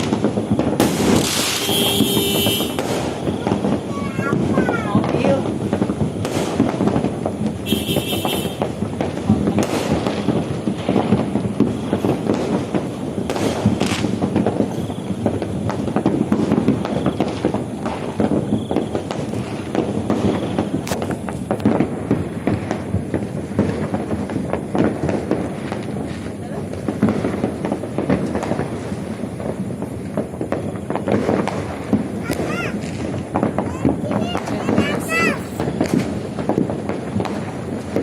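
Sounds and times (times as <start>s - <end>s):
fireworks crackling: 0.0s - 38.0s
loud firework reports: 0.0s - 38.0s.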